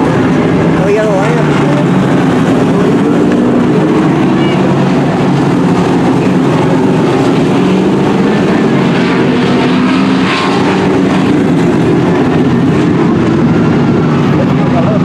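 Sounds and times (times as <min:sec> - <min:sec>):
racing truck engines droning: 0:00.0 - 0:15.0.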